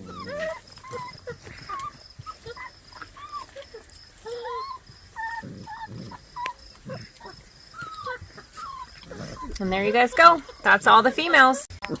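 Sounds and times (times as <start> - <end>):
puppies whining and yipping: 0.0 - 11.6.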